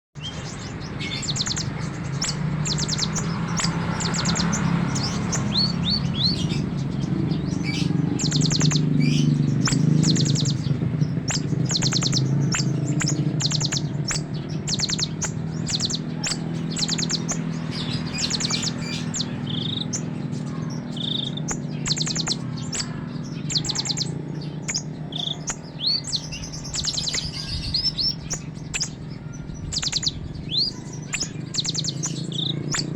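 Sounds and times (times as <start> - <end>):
songbird chattering and chirping: 0.2 - 32.9.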